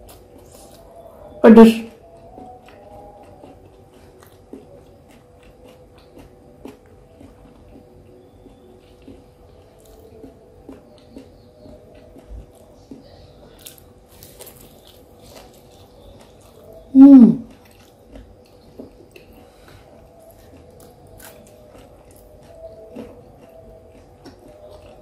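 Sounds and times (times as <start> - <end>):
chewing and biting food: 0.0 - 25.0.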